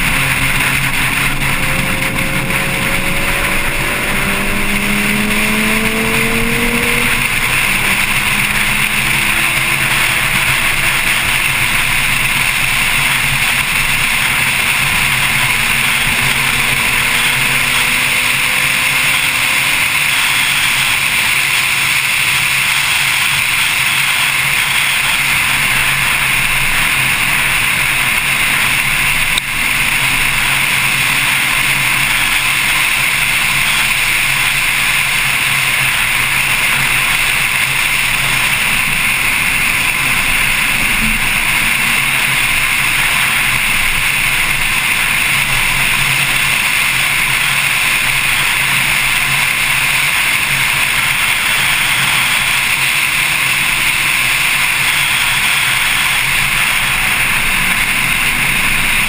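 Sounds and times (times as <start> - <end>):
low engine drone: 0.0 - 59.0
wind and road noise rushing: 0.0 - 59.0.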